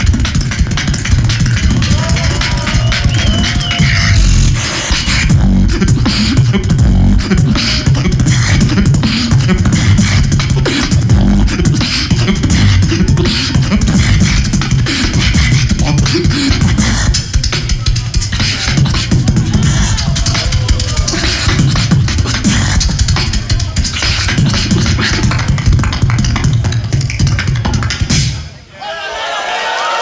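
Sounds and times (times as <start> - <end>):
person beatboxing into microphone: 0.0 - 28.6.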